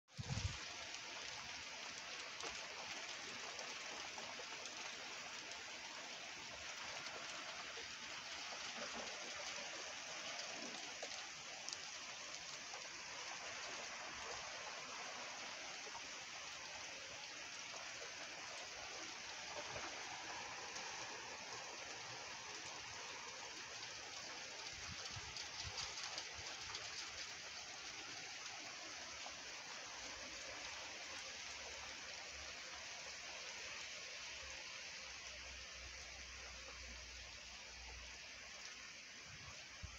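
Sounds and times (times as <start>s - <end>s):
hail falling: 0.1s - 34.4s.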